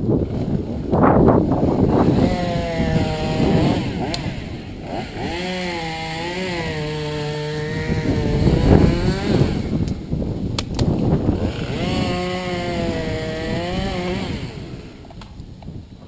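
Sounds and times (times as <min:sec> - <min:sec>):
chainsaw idling: 0:00.2 - 0:15.2.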